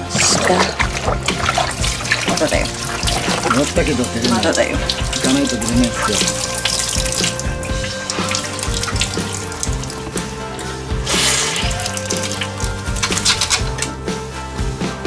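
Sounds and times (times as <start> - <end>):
water trickling and splashing: 0.0 - 14.1
background music: 0.0 - 15.0.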